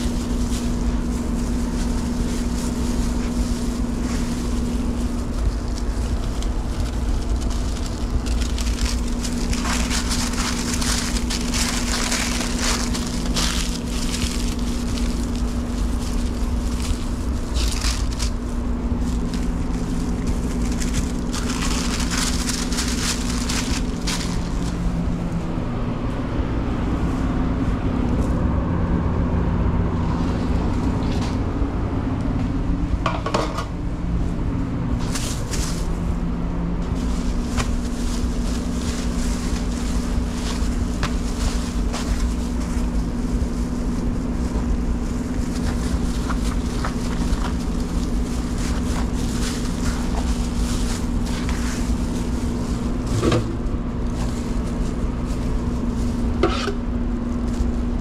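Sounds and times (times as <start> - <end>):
paper rustling: 0.0 - 25.4, 35.0 - 36.0, 36.8 - 58.0
kitchen equipment hum: 0.0 - 58.0.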